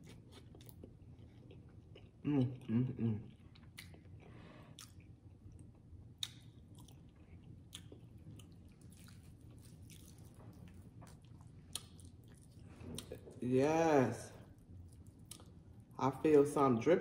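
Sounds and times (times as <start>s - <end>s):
chewing and wet mouth sounds: 0.0s - 13.4s, 14.4s - 16.0s.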